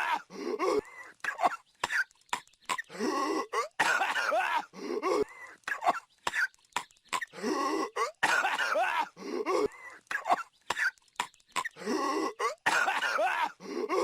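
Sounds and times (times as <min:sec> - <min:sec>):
cartoon raspy hacking cough: 0:00.0 - 0:02.1, 0:02.7 - 0:06.5, 0:07.2 - 0:11.0, 0:11.6 - 0:14.0.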